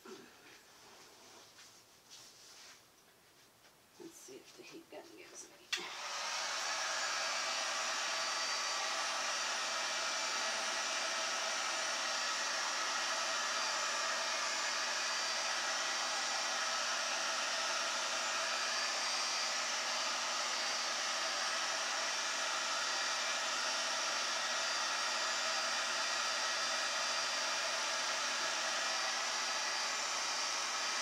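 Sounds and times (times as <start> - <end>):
heat gun blowing: 5.7 - 31.0.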